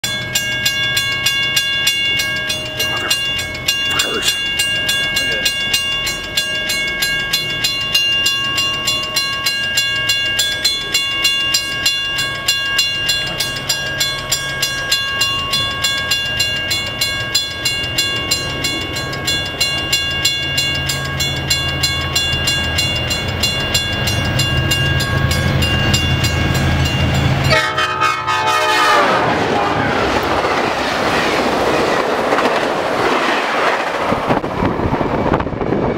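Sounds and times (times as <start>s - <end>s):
railroad crossing bell ringing: 0.0s - 32.4s
diesel train rumble: 0.0s - 35.9s.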